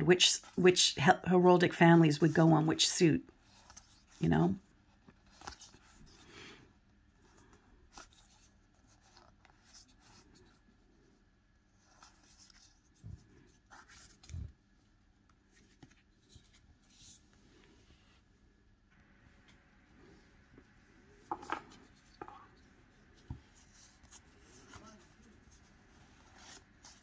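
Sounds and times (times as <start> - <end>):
paper cards rustling and sliding: 3.3 - 6.5, 7.2 - 18.4, 19.0 - 27.0.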